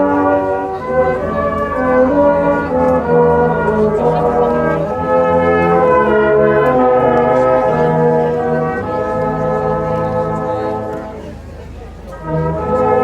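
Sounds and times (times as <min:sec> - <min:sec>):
brass band playing chords: 0:00.0 - 0:13.0.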